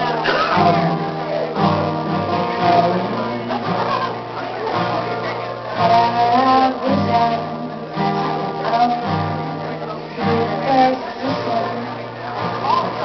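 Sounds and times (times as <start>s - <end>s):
bass guitar: 0.0s - 13.0s
guitar: 0.0s - 13.0s
person singing: 0.0s - 13.0s.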